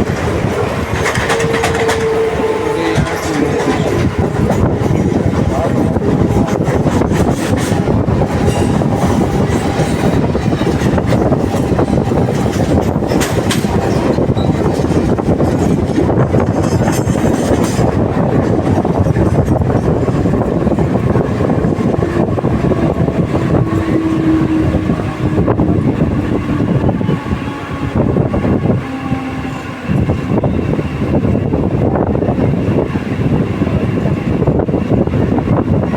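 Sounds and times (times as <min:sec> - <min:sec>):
train rumbling along track: 0:00.0 - 0:35.9.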